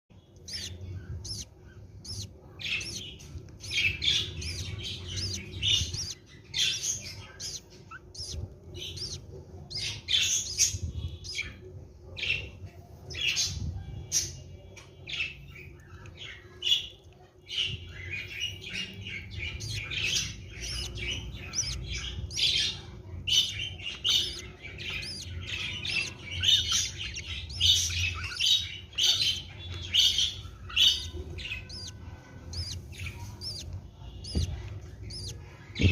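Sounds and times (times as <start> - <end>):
budgerigars chirping and squawking: 0.2 - 35.9.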